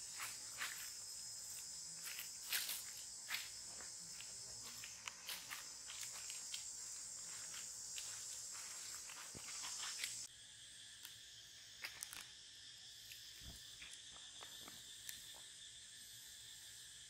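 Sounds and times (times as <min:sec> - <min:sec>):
forest insects chorus: 0:00.0 - 0:17.0
insect trill: 0:00.0 - 0:17.0.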